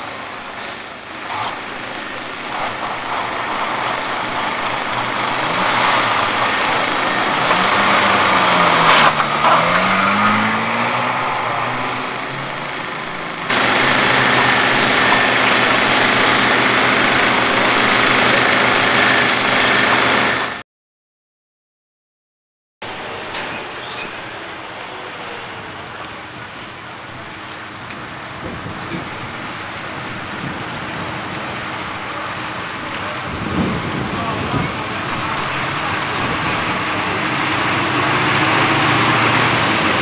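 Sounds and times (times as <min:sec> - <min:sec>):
heavy vehicle engines running: 0:00.0 - 0:20.6, 0:22.8 - 0:40.0
steady wash of noise: 0:00.0 - 0:20.6, 0:24.2 - 0:40.0.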